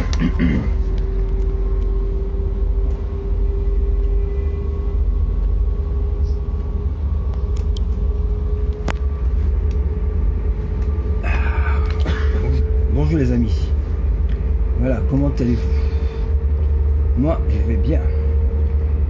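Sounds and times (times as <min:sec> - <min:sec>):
constant humming tone: 0:00.0 - 0:19.0
train cabin rumble: 0:00.0 - 0:19.0.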